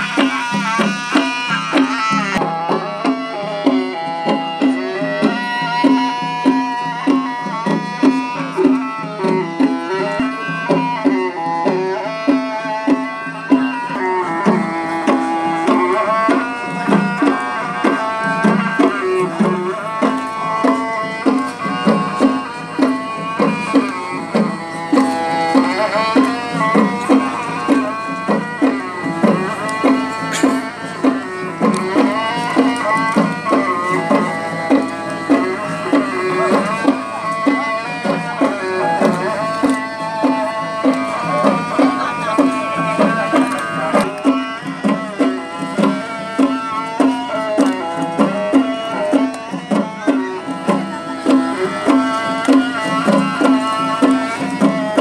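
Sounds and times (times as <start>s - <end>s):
bending folk melody: 0.0s - 55.0s
hand drum beat: 0.0s - 55.0s.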